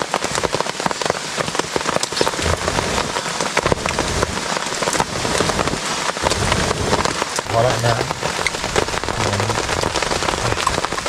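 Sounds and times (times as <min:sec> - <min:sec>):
heavy rain on a tarp: 0:00.0 - 0:11.0.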